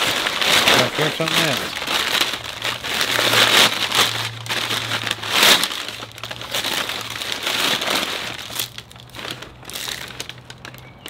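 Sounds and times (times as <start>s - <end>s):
packing paper crumpling: 0.0s - 11.0s.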